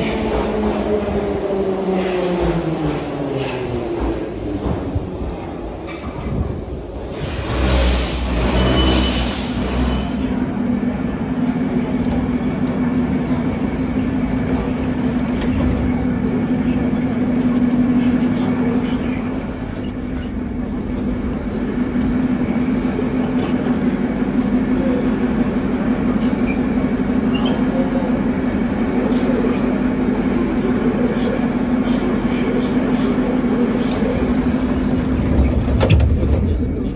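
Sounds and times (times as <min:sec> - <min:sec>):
metro train humming: 0:00.0 - 0:36.9.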